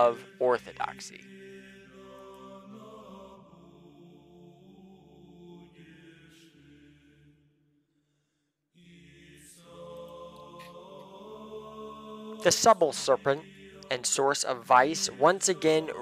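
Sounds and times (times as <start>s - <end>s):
soft chant with held notes: 0.0s - 7.4s, 8.8s - 16.0s.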